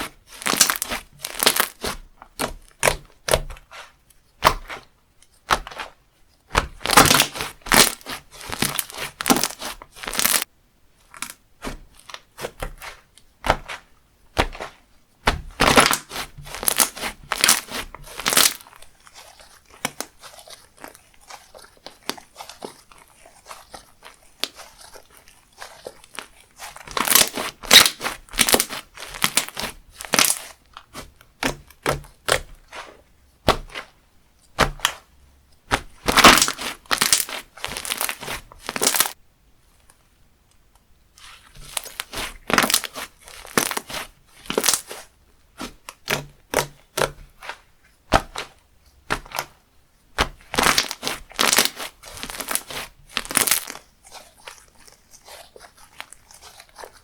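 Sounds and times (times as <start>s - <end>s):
slime crackling and popping: 0.0s - 10.5s, 11.1s - 34.0s, 35.7s - 39.2s, 41.2s - 49.6s, 50.2s - 57.0s.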